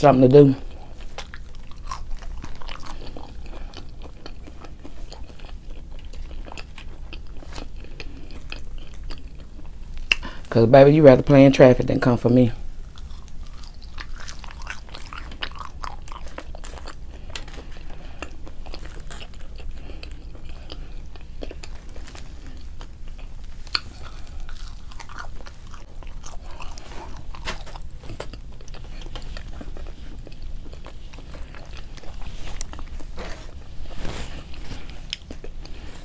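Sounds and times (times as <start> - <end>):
crunchy chewing of food: 0.6 - 10.4, 12.6 - 36.0.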